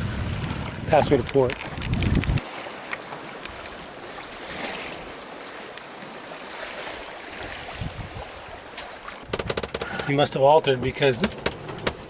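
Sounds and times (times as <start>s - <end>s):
wind and sea rushing: 0.0s - 12.0s.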